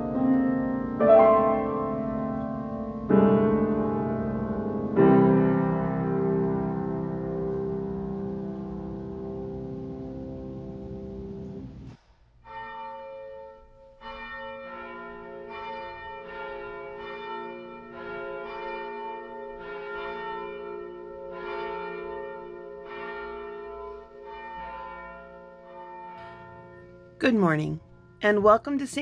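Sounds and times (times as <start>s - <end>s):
church bells ringing: 0.0s - 11.8s, 12.4s - 29.0s.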